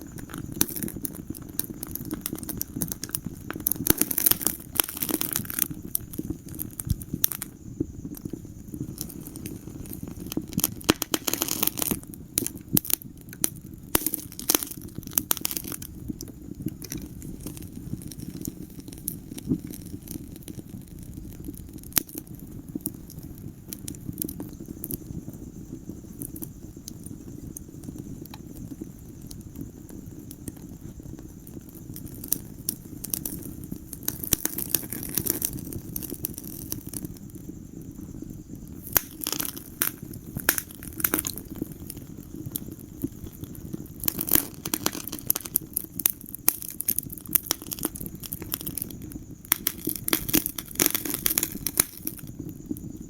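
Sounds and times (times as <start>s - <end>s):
fire popping and snapping: 0.0s - 53.0s
low rush of flames: 0.0s - 53.0s
wood fire crackling: 0.0s - 53.0s.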